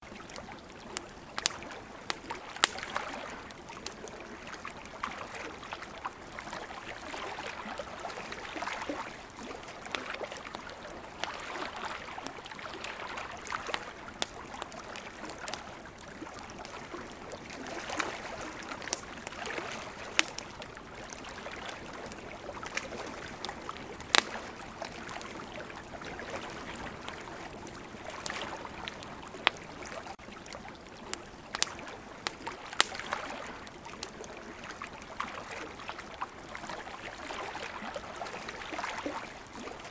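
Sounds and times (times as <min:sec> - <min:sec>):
campfire crackling and popping: 0:00.1 - 0:39.9
ocean waves: 0:01.5 - 0:30.2, 0:31.7 - 0:39.9.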